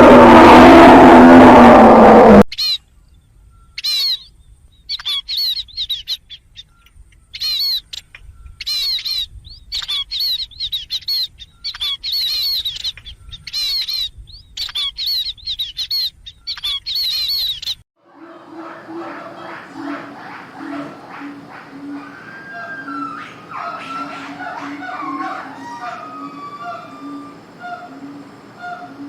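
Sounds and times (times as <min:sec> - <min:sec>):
songbird chirping: 0:02.5 - 0:29.0.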